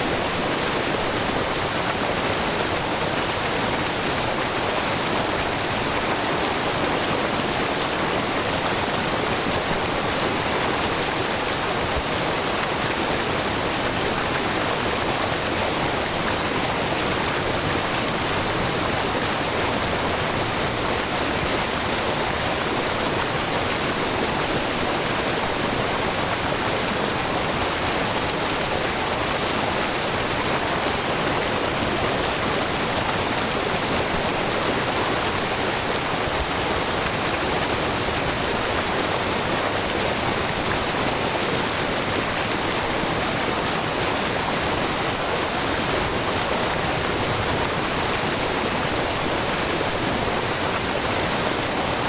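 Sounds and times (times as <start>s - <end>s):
waterfall rushing and splashing: 0.0s - 52.0s.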